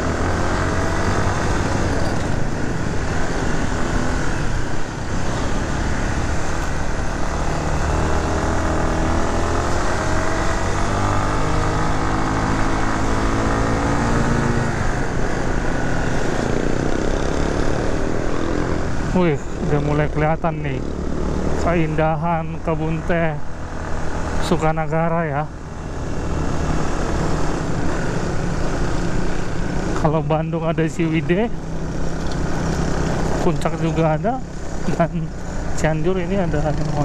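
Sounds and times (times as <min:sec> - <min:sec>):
road and wind noise: 0:00.0 - 0:37.0
vehicle engine running: 0:00.0 - 0:37.0.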